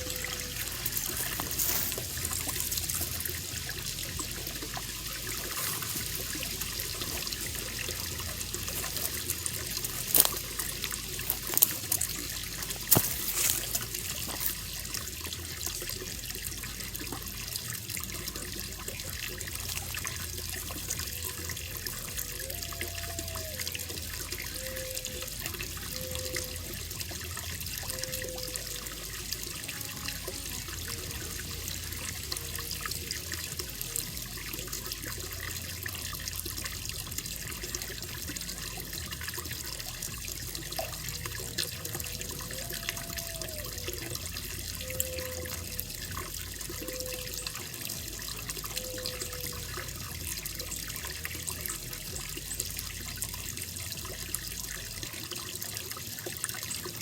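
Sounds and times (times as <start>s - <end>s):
running water in pond: 0.0s - 57.0s.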